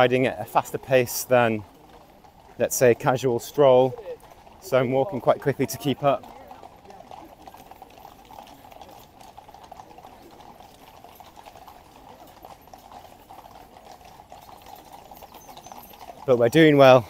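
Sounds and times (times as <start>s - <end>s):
horse hooves clip-clopping on road: 0.0s - 17.0s.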